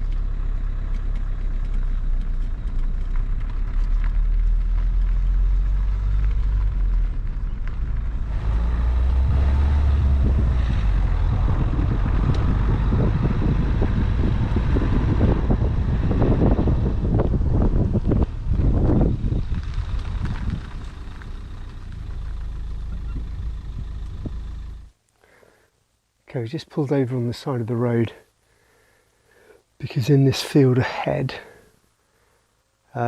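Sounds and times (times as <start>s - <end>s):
car engine and tyre rumble: 0.0s - 27.8s.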